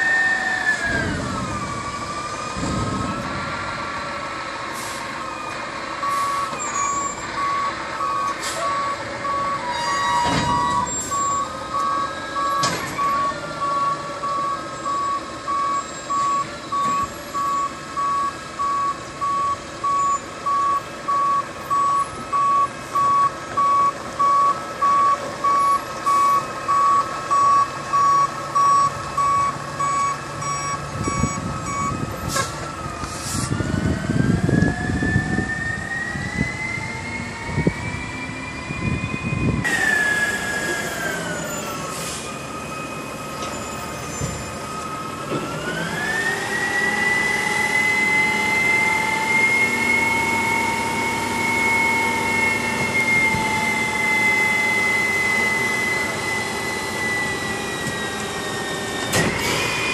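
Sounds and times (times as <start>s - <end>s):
truck engine rising in pitch: 0.0s - 59.9s
truck reversing alarm beeping: 0.0s - 59.9s.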